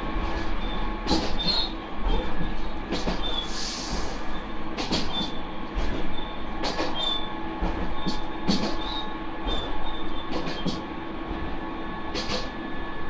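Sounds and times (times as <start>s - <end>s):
railcar engine hum: 0.0s - 13.0s.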